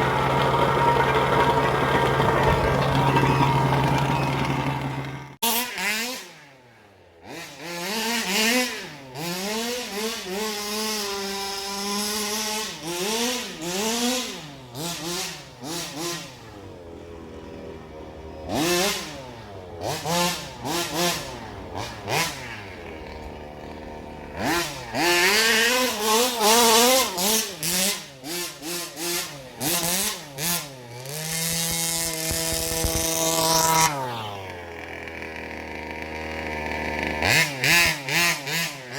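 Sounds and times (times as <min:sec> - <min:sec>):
small two-stroke engine revving: 0:00.0 - 0:38.9.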